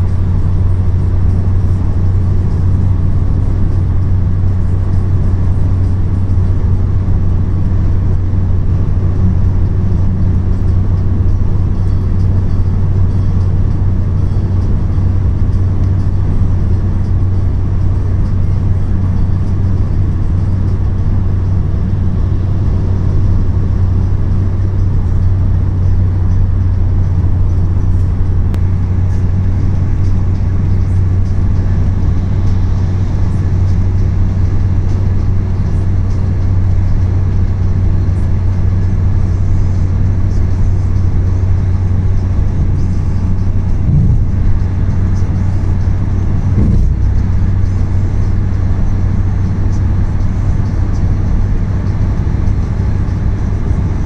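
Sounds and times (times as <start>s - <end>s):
car engine drone: 0.0s - 54.0s
tyre road noise: 0.0s - 54.0s.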